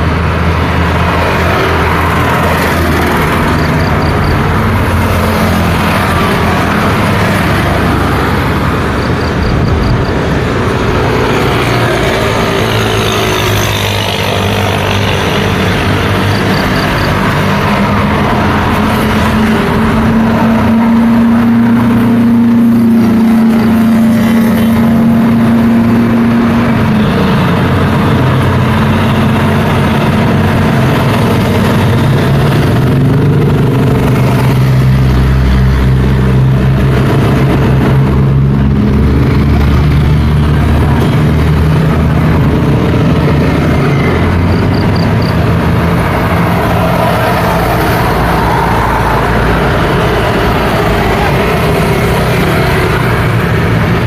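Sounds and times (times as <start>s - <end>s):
cars driving past: 0.0s - 54.0s
heavy vehicle engine rumble: 0.0s - 54.0s
motorcycles passing: 0.0s - 54.0s.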